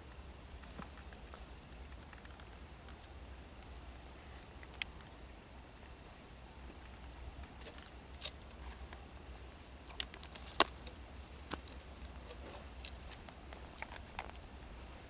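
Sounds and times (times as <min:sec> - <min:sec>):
low steady rumble: 0:00.0 - 0:15.0
faint clicks and crackles: 0:00.1 - 0:05.9, 0:06.7 - 0:14.5.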